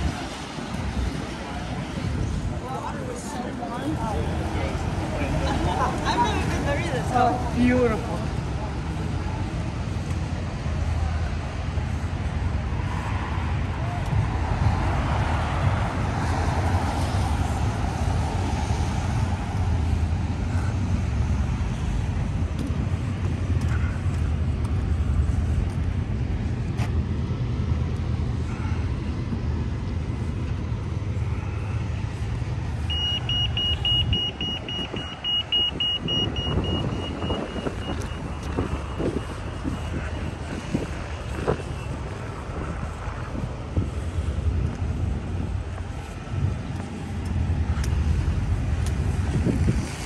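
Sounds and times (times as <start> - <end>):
car passing: 0.0 - 50.0
traffic rumble: 0.0 - 50.0.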